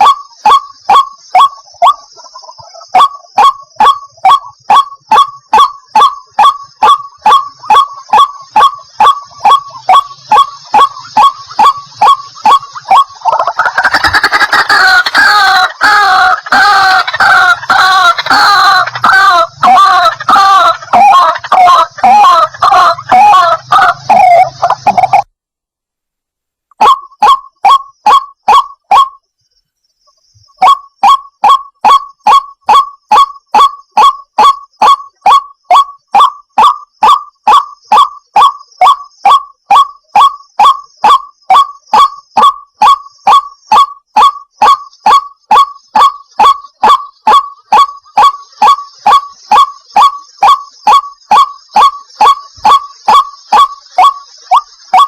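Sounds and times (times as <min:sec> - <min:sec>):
waterhen calling kook notes: 0:00.0 - 0:25.3, 0:26.8 - 0:29.2, 0:30.3 - 0:55.0.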